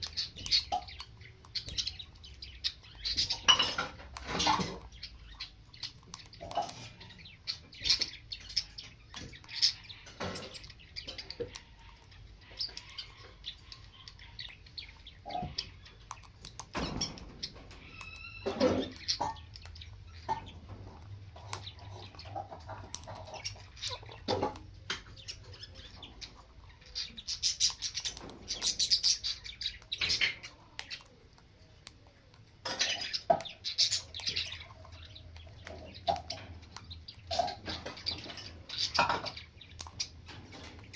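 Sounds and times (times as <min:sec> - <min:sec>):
parrot chirping and squawking: 0:00.0 - 0:40.9.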